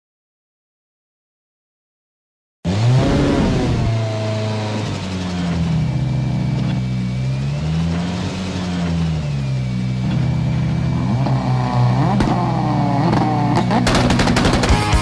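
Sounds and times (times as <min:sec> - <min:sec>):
car engine revving and idling: 0:02.7 - 0:15.0.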